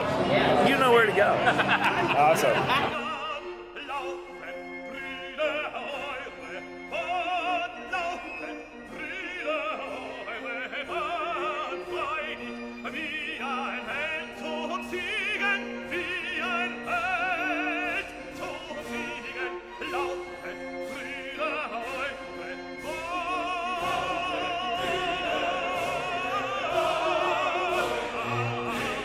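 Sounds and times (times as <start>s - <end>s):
operatic singing: 0.0s - 29.0s
orchestral accompaniment: 0.0s - 29.0s.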